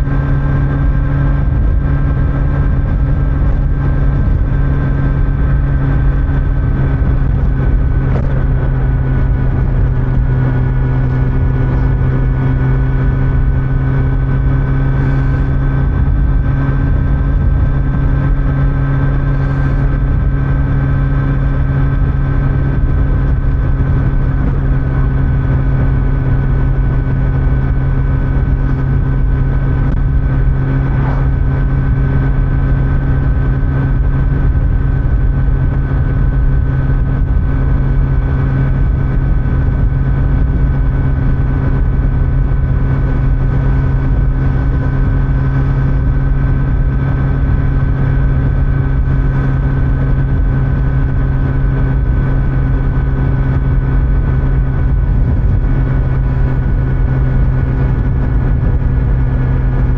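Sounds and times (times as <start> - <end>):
motorcycle engine cruising: 0.0 - 59.9
road noise: 0.0 - 59.9.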